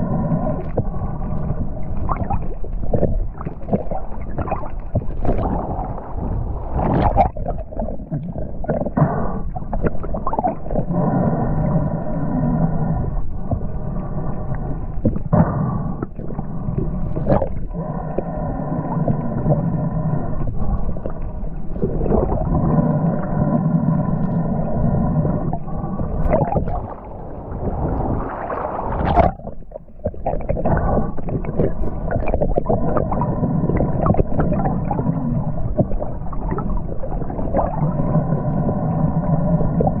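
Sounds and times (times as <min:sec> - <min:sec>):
low underwater hum: 0:00.0 - 0:40.0.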